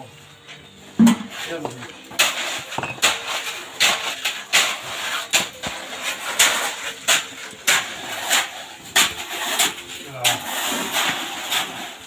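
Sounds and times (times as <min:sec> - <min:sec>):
shovels scraping wet concrete: 0:01.0 - 0:12.0.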